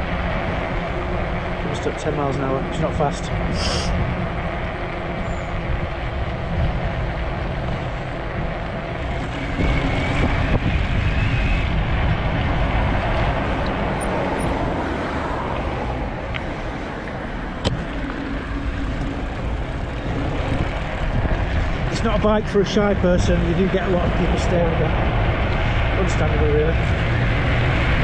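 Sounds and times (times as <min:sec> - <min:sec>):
wind on microphone: 0:03.1 - 0:28.0.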